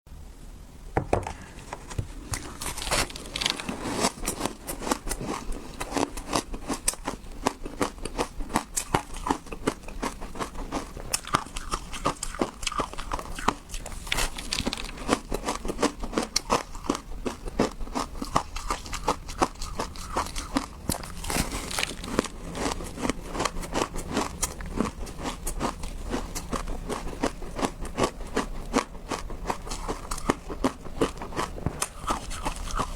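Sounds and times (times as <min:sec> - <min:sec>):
ice being chewed: 0:02.3 - 0:32.9.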